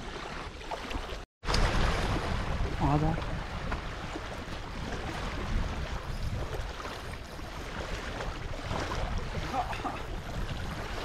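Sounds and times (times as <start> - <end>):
water at shore: 0.0 - 11.0
wind on microphone: 1.4 - 11.0.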